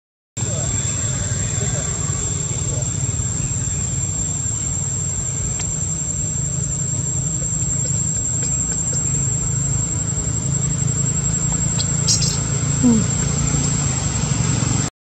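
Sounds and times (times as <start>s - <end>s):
high-pitched insect drone: 0.4s - 14.9s.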